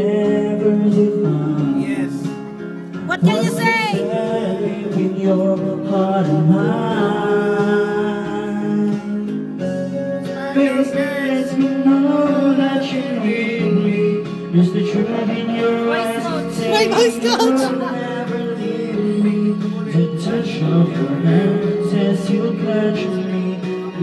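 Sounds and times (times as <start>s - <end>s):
instrumental backing music: 0.0s - 24.0s
man singing: 0.0s - 24.0s.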